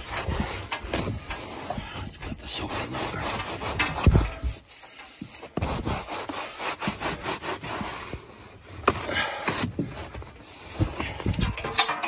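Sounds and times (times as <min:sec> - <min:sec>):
wet rag scrubbing insulation: 0:00.0 - 0:12.0.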